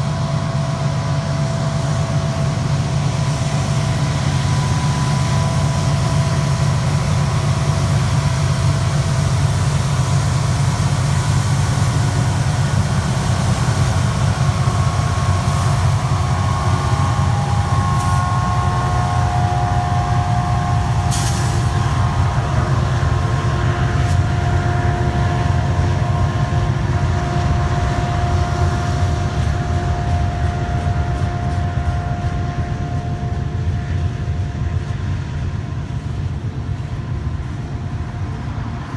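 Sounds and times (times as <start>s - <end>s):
diesel locomotives passing: 0.0s - 38.9s
freight cars rumbling on rails: 0.0s - 38.9s
thin steady whine: 0.0s - 38.9s.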